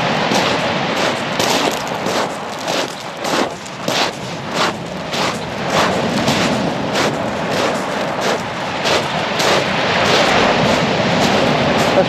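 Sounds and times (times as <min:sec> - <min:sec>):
footsteps crunching on shingle: 0:00.0 - 0:12.0
surf rushing: 0:00.0 - 0:12.0
wind: 0:00.0 - 0:12.0.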